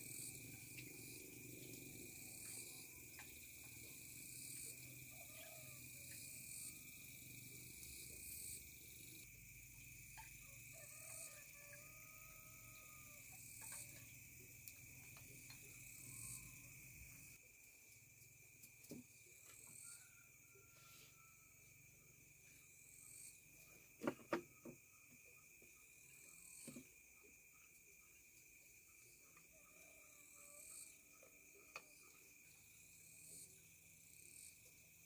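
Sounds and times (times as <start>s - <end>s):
insect chorus high drone: 0.0s - 35.0s
rising high-pitched insect call: 0.0s - 35.0s.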